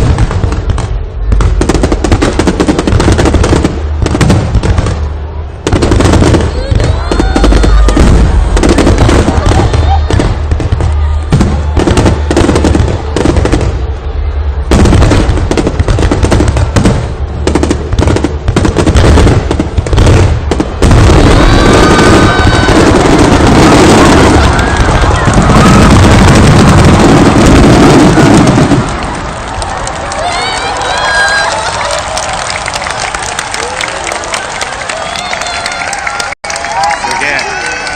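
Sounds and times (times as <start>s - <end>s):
heavy rumble: 0.0s - 31.0s
fireworks booming: 0.0s - 33.4s
fireworks crackling: 0.0s - 37.9s.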